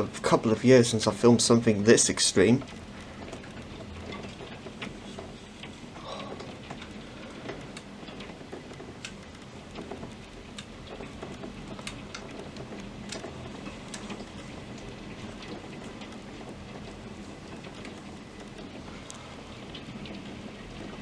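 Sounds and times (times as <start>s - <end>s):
drops ticking on hard surface: 0.0s - 21.0s
heavy rain falling: 0.0s - 21.0s.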